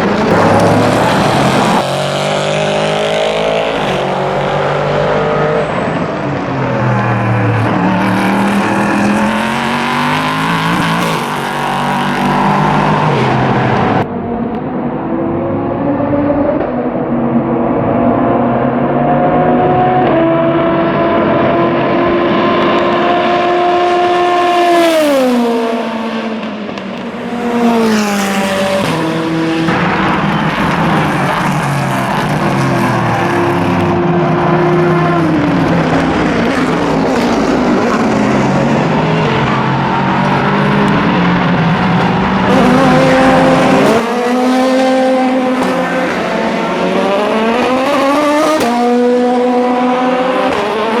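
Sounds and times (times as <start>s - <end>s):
race car engines: 0.0s - 51.0s.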